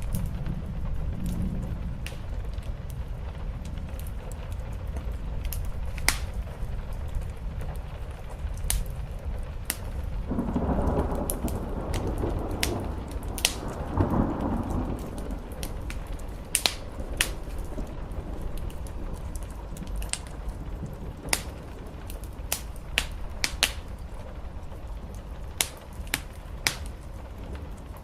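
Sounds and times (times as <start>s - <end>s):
deep rumbling noise: 0.0s - 28.0s
fireplace crackling and popping: 0.0s - 28.0s
rain on a roof: 0.0s - 28.0s.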